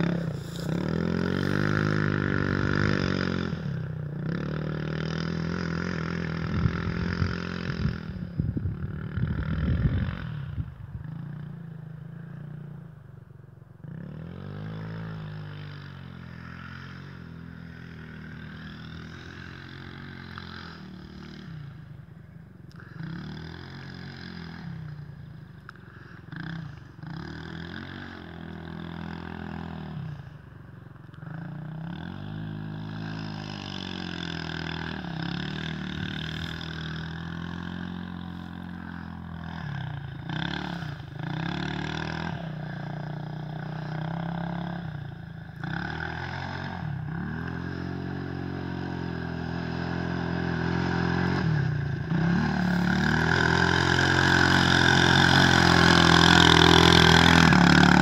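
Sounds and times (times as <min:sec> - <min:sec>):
quad engine revving: 0:00.0 - 0:12.8, 0:13.8 - 0:21.9, 0:22.7 - 0:58.0.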